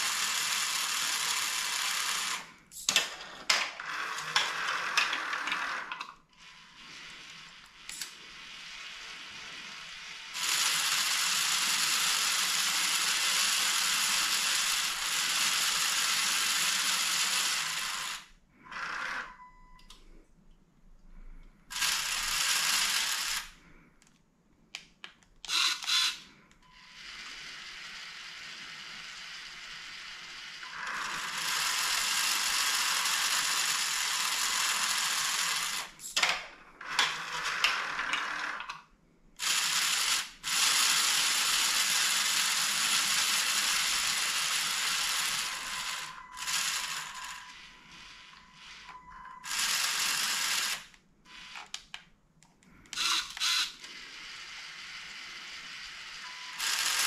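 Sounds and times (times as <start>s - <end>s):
electric motors whirring through gears: 0.0s - 2.9s, 4.0s - 19.4s, 21.7s - 23.6s, 25.5s - 36.2s, 39.4s - 51.9s, 52.9s - 57.0s.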